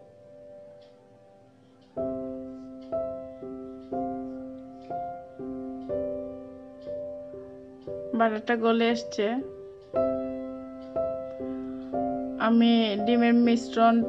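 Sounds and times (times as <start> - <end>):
slow soft melodic music: 0.0 - 14.0.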